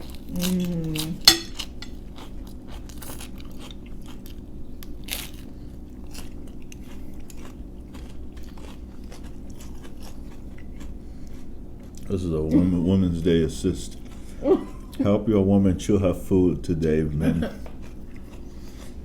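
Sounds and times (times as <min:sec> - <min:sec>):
chewing food: 0:00.0 - 0:12.4, 0:13.0 - 0:15.0, 0:17.6 - 0:19.0
steady low hum: 0:00.0 - 0:19.0.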